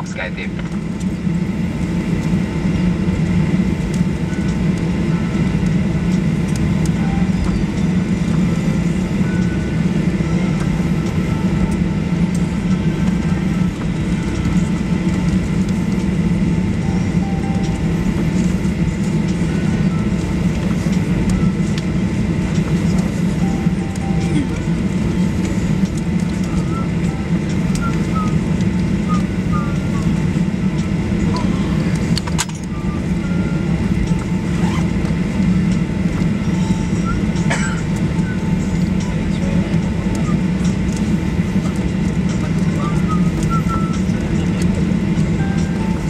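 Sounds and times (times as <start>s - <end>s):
aircraft cabin rumble taxiing: 0.0s - 46.0s
faint steady whine: 0.0s - 46.0s.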